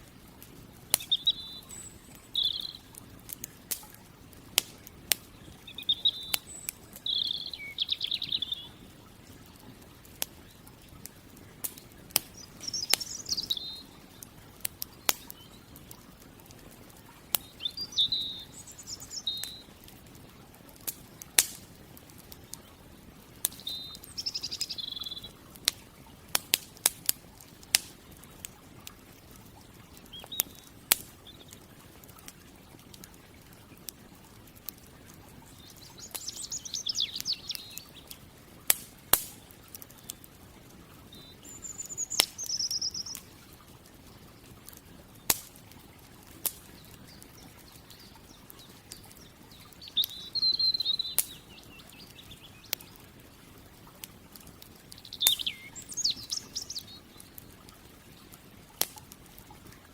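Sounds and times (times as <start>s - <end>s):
campfire crackling and popping: 0.0s - 59.9s
songbirds chirping: 0.0s - 59.9s.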